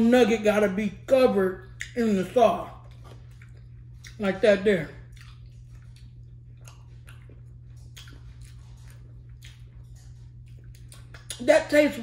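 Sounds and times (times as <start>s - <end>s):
steady low hum: 0.0s - 12.0s
person chewing food: 1.6s - 11.5s.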